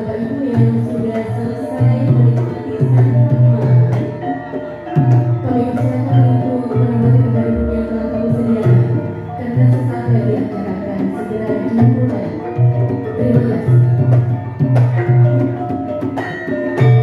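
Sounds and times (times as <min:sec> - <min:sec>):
hand drums: 0:00.0 - 0:17.0
metallophones and gongs ringing: 0:00.0 - 0:17.0.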